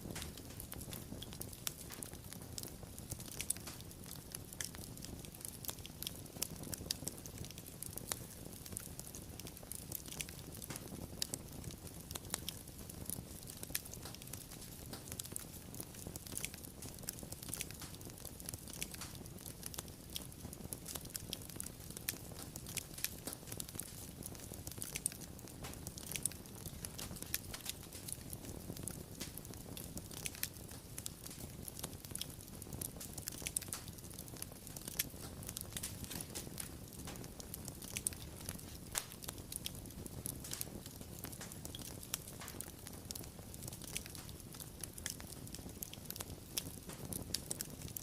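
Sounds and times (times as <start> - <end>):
fire crackling: 0.0 - 48.0.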